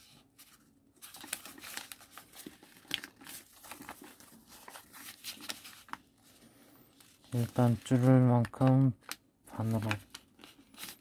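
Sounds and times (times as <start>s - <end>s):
paper crackle: 0.0s - 11.0s
paper rustling and crinkling: 0.0s - 11.0s.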